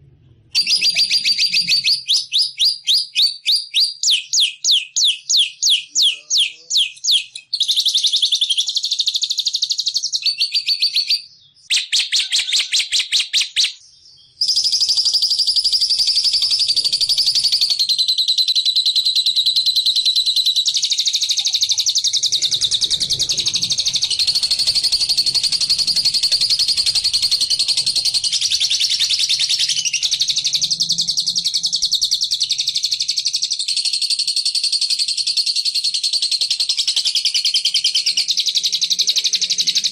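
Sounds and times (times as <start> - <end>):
lovebird chattering trill: 0.6 - 13.8, 14.4 - 39.9.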